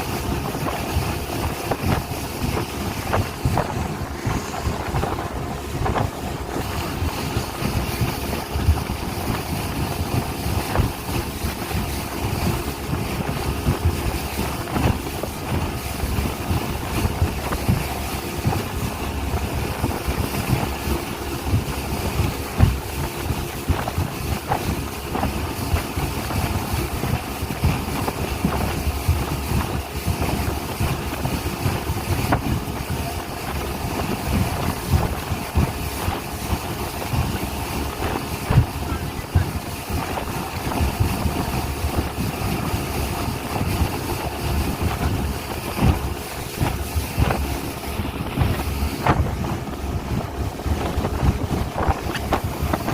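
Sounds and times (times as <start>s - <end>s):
speedboat engine running: 0.0s - 52.9s
wind and water rushing: 0.0s - 52.9s.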